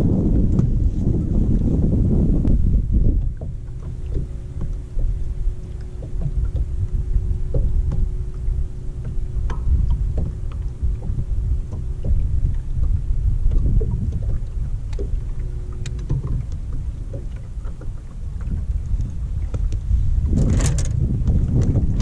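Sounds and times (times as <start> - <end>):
waves lapping against boat hull: 0.0 - 22.0
wind buffeting microphone: 0.0 - 22.0
light ticks and splashes: 2.4 - 22.0.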